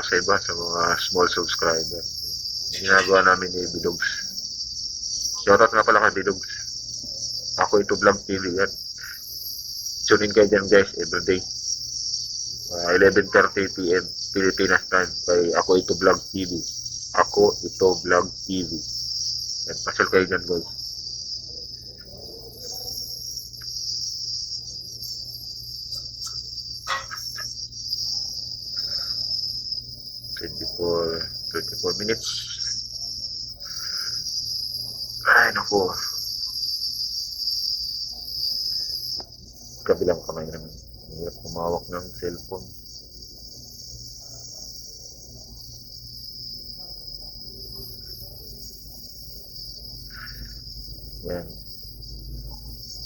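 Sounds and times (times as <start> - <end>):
crickets trilling: 0.0 - 53.0
high-pitched insect chorus: 0.0 - 53.0.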